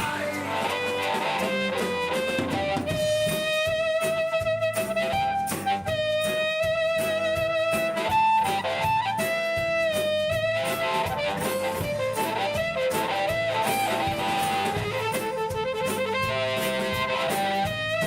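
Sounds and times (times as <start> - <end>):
bent lead guitar notes: 0.0 - 18.0
rhythm guitar: 0.0 - 18.0
steady drum beat: 0.0 - 18.0.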